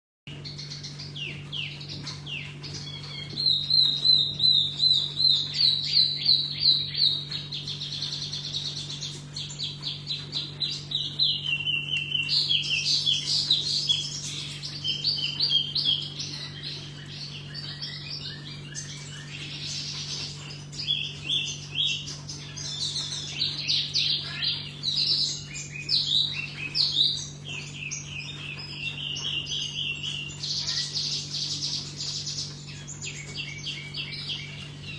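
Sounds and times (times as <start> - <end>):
songbird chirps and trills: 0.3 - 34.9
steady low hum: 0.3 - 34.9.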